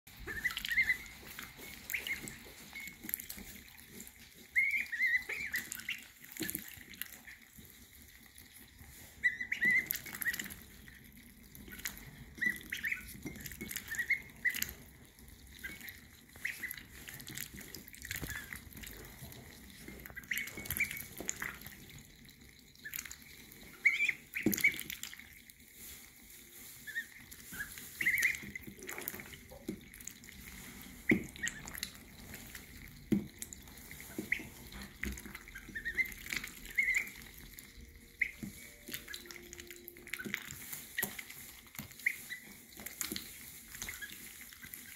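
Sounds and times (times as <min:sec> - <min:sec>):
ducklings peeping: 0:00.1 - 0:44.9
water splashing and dripping: 0:00.1 - 0:44.9.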